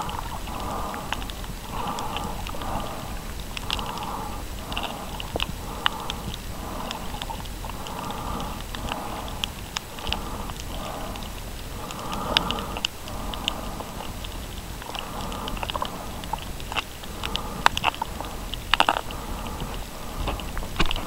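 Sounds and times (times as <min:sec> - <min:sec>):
diver breathing underwater: 0:00.0 - 0:21.0
sharp clicks and crackles: 0:00.0 - 0:21.0.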